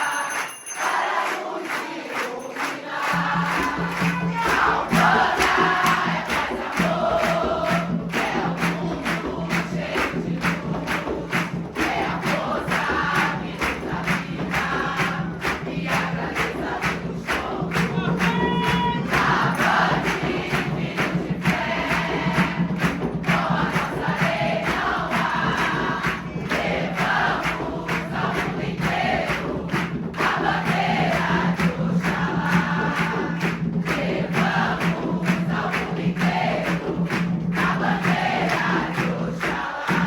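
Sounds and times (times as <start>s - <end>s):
choir singing: 0.0s - 40.0s
percussion beats: 0.0s - 40.0s.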